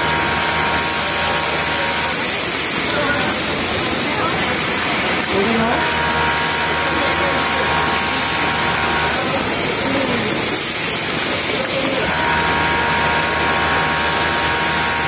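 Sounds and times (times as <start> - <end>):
hissing machine noise: 0.0 - 15.0
sewing machine whining: 0.0 - 15.0.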